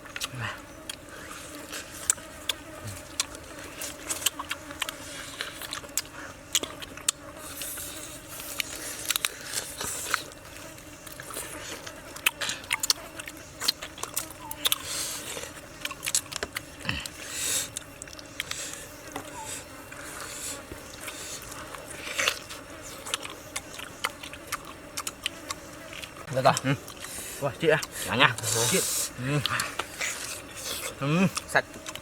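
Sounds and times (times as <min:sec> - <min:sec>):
crunchy food being chewed: 0:00.0 - 0:32.0.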